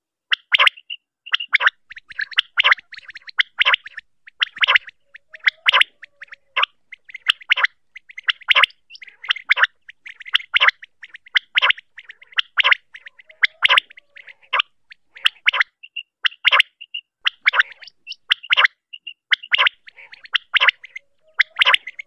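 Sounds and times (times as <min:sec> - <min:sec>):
quail calling: 0:00.3 - 0:22.0.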